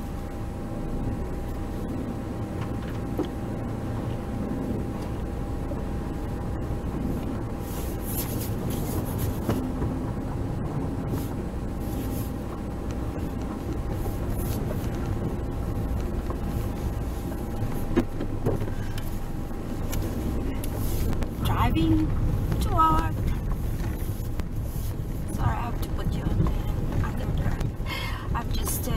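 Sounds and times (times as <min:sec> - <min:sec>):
car interior driving rumble: 0:00.0 - 0:28.9.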